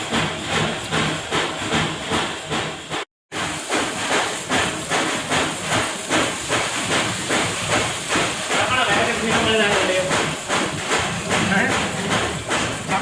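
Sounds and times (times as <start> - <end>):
factory machinery hissing and chuffing: 0.0 - 13.0.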